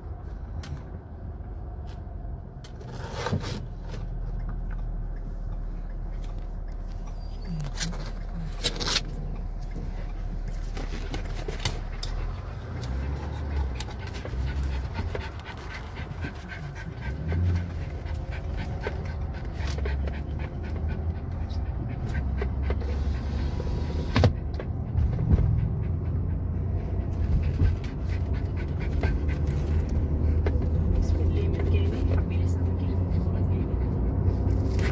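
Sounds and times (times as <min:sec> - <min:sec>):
car road and engine rumble: 0:00.0 - 0:34.9
dog panting: 0:05.2 - 0:23.6, 0:24.4 - 0:34.9.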